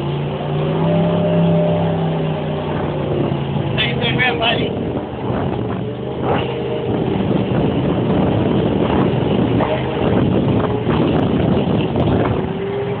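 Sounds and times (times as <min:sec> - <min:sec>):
jet boat engine running: 0:00.0 - 0:13.0
water rushing: 0:00.0 - 0:13.0
wind noise: 0:00.8 - 0:13.0.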